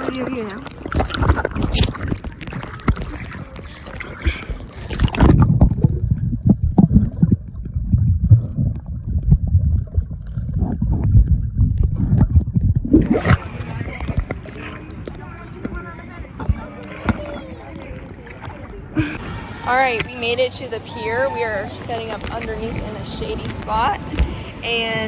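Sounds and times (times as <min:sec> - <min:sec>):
pool water splashing: 0:00.0 - 0:25.0
underwater churning rumble: 0:00.0 - 0:25.0.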